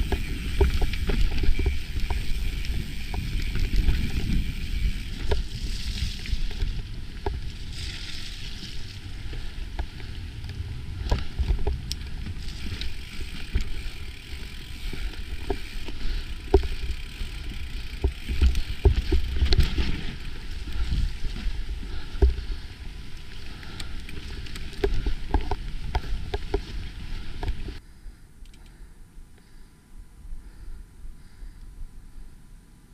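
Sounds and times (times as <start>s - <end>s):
bike rattling over bumps: 0.0s - 27.8s
low rumble of tyres and air: 0.0s - 32.9s.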